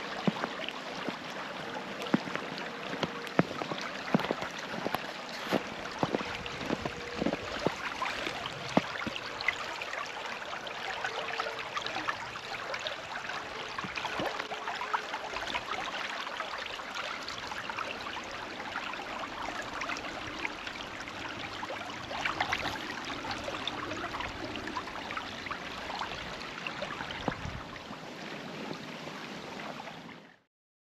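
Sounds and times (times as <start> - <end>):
small splashes: 0.0 - 30.0
stream babbling: 0.0 - 30.3.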